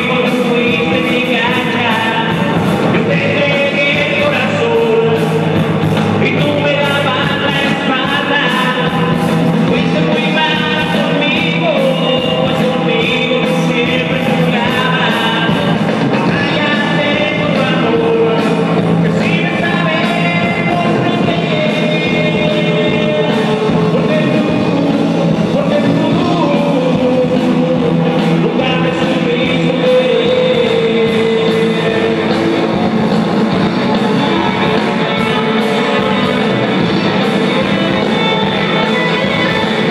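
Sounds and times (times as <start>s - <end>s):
drum beat: 0.0s - 39.9s
live rock band playing: 0.0s - 39.9s
person singing: 0.0s - 39.9s.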